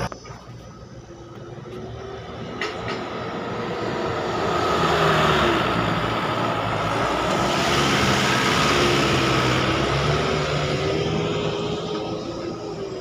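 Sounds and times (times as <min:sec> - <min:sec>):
diesel truck engine: 0:00.0 - 0:13.0
engine whine: 0:00.0 - 0:13.0.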